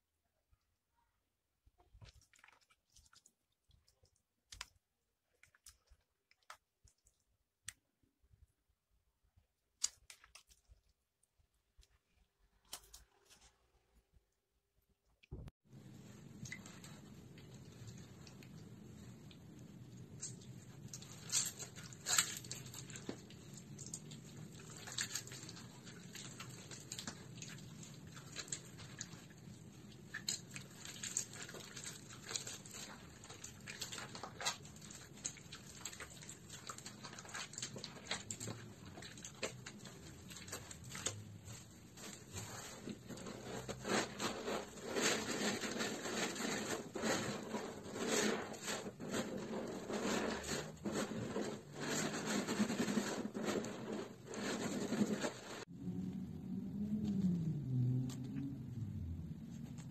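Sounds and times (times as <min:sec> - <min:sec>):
wet soap squishing and crackling: 0:01.6 - 0:55.7.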